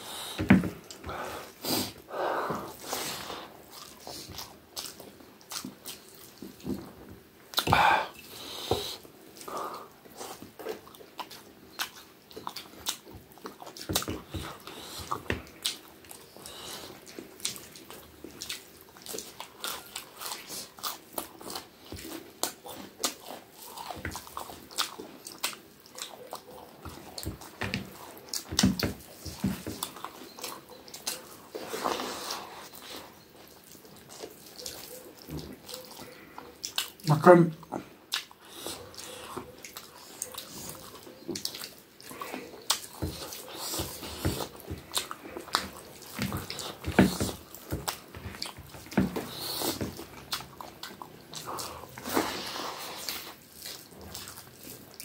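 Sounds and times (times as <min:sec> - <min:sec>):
wet chewing and lip-smacking: 0:00.1 - 0:55.0.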